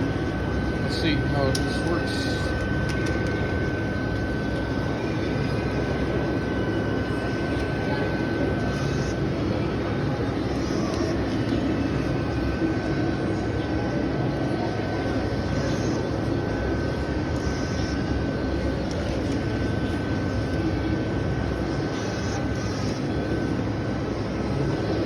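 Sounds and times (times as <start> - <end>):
machine whirring with high whine: 0.0 - 25.0.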